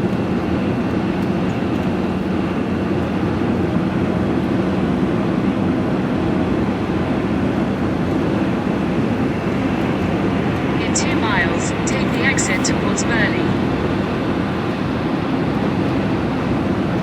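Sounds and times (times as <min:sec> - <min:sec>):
engine and tyre noise in cab: 0:00.0 - 0:11.0, 0:13.4 - 0:17.0.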